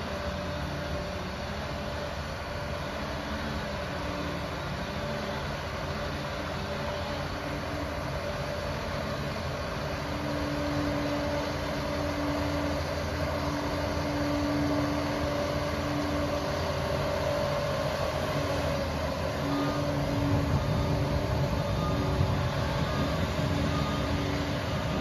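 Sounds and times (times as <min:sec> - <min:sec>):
bulldozer diesel engine running: 0:00.0 - 0:25.0
steady whine: 0:00.0 - 0:25.0.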